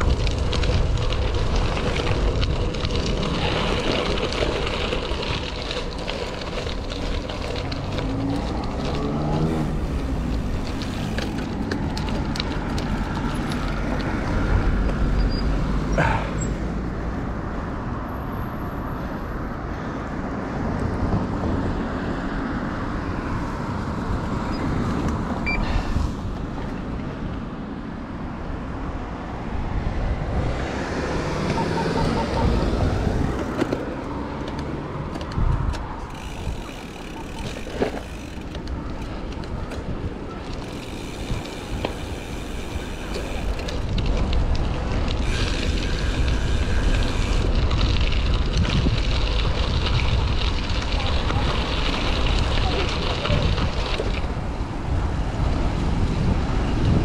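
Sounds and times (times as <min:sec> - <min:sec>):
motor vehicles passing: 0:00.0 - 0:57.0
tyre and road noise: 0:00.0 - 0:57.0.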